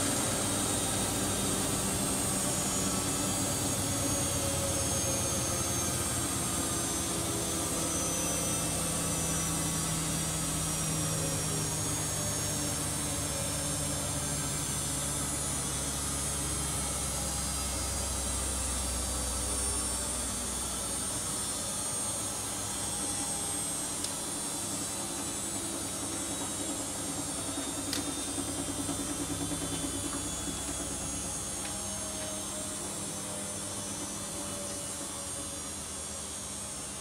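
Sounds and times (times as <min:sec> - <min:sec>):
washing machines humming: 0:00.0 - 0:37.0.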